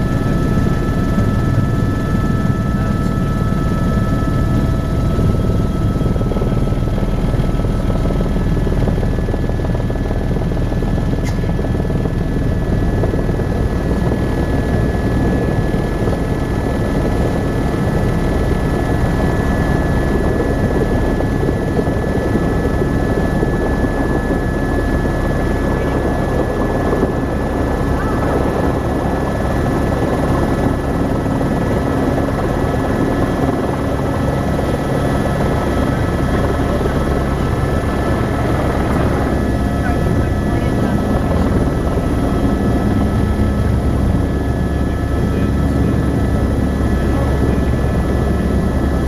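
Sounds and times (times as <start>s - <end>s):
helicopter rotor drone: 0.0s - 49.0s.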